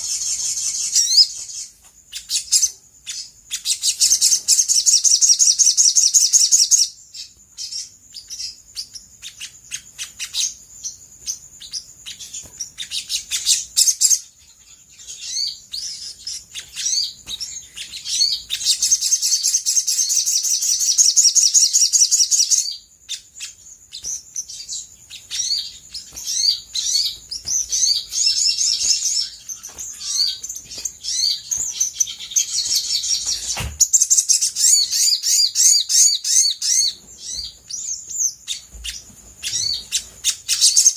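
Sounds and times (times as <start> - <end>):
sunbird chattering song: 0.0 - 40.9.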